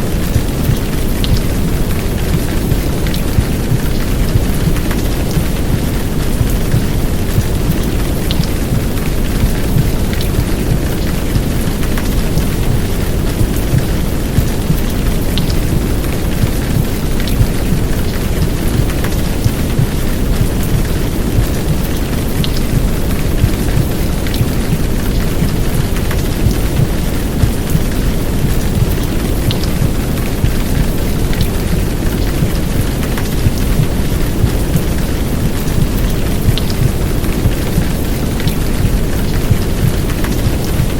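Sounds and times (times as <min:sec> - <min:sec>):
heavy rain downpour: 0:00.0 - 0:40.9.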